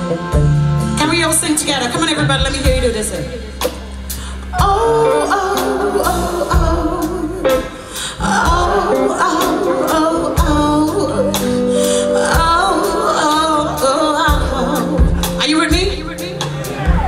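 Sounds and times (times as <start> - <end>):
live rock band playing: 0.0 - 17.0
woman singing: 1.0 - 3.7, 4.5 - 17.0.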